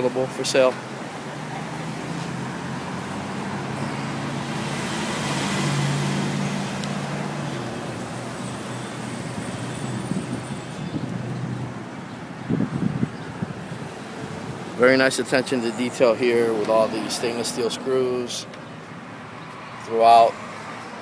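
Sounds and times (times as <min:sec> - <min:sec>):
vehicle engine hum: 0:00.0 - 0:19.8.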